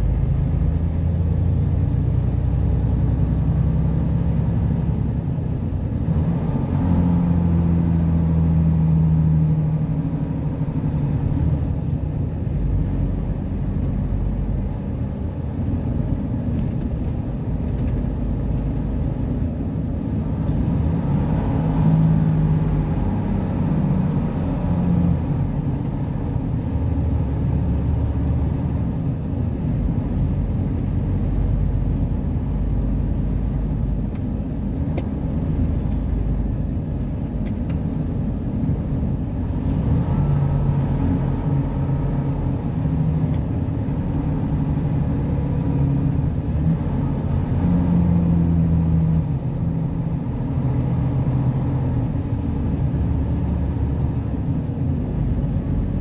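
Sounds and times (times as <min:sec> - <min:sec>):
vehicle engine and tyre drone: 0:00.0 - 0:56.0.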